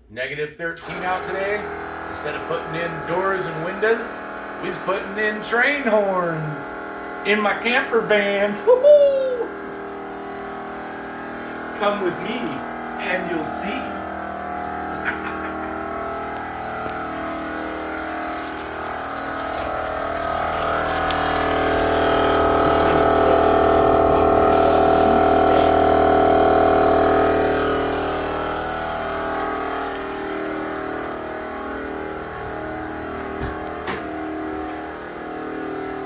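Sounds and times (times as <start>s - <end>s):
mechanical drone with low rumble: 0.7s - 36.0s.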